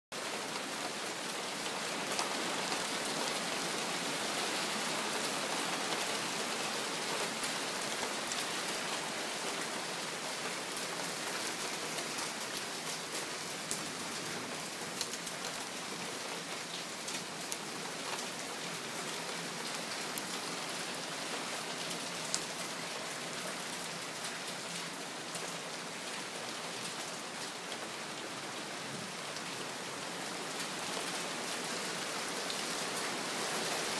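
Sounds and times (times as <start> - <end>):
heavy rain on patio: 0.1 - 33.9.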